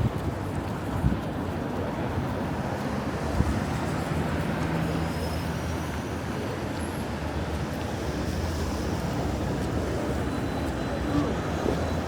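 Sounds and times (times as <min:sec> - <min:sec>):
city street noise: 0:00.0 - 0:12.0.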